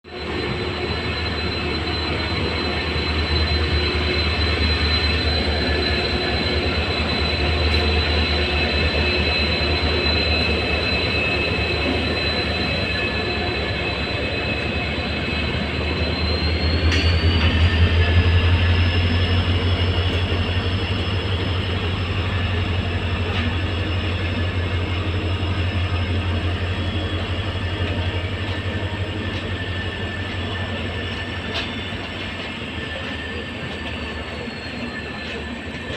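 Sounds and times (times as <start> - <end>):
diesel locomotive engine drone: 0.0 - 35.9.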